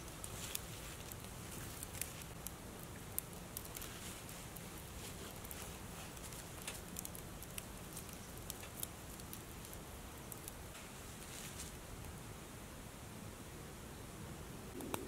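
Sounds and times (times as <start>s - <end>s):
wood fire crackling in a stove: 0.0s - 13.1s.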